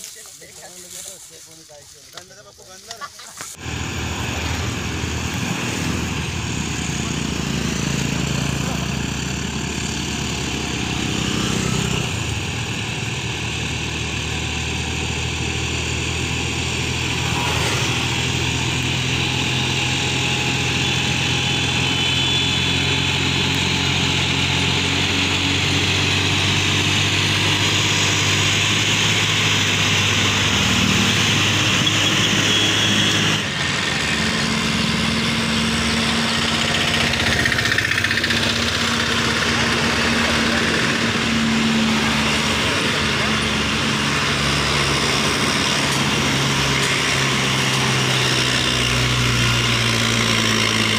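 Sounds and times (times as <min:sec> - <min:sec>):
steady engine: 0:00.0 - 0:50.9
tractor diesel engine running: 0:00.0 - 0:50.9
motorcycle passing: 0:03.9 - 0:14.4, 0:15.1 - 0:23.4, 0:26.4 - 0:50.9.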